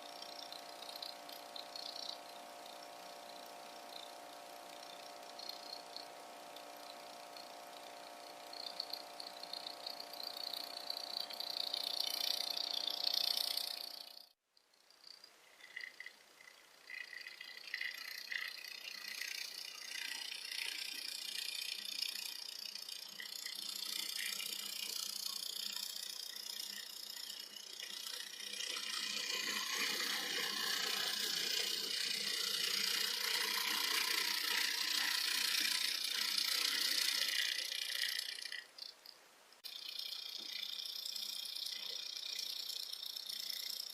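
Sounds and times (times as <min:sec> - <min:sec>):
electric gear motor whirring: 0:00.0 - 0:14.4, 0:16.8 - 0:38.8
light mechanical rattle: 0:00.0 - 0:43.9.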